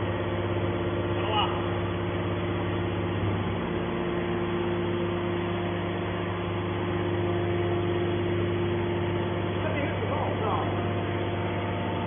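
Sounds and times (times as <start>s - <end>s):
constant whine: 0.0s - 12.0s
hydraulic power unit humming: 0.0s - 12.0s.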